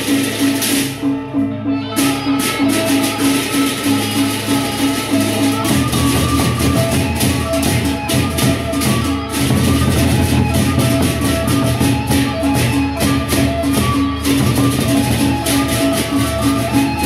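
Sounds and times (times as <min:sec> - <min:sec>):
large barrel drums beaten: 0:02.0 - 0:17.0.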